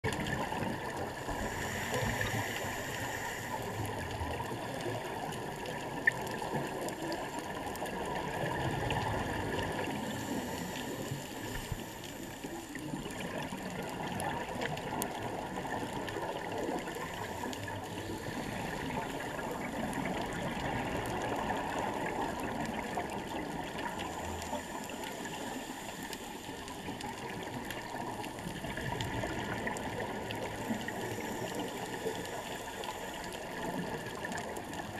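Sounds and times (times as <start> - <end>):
underwater water noise: 0.0 - 34.9.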